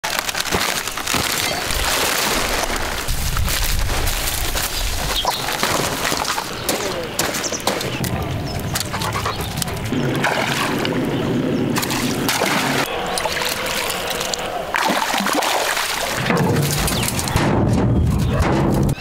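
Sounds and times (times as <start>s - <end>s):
water splashing: 0.0s - 18.4s.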